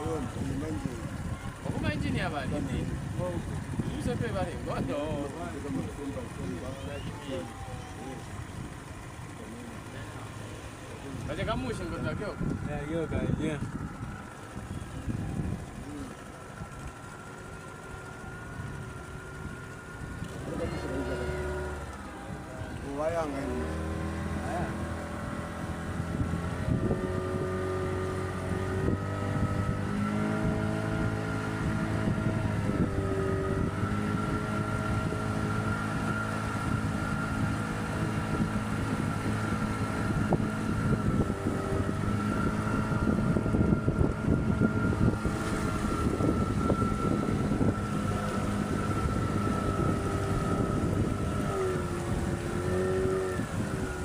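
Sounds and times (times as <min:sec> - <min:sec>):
motorboat engine running: 0:00.0 - 0:54.0
wind buffeting microphone: 0:00.0 - 0:54.0.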